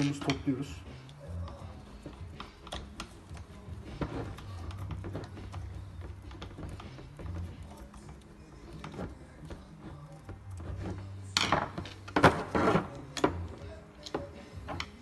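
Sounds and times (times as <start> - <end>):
parts scraping and rubbing: 0.0 - 15.0.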